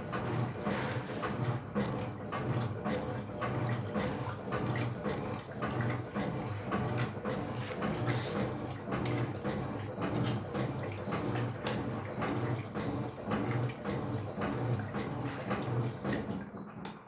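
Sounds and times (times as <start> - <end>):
water sloshing: 0.0 - 16.6
washing machine motor hum: 0.0 - 17.0.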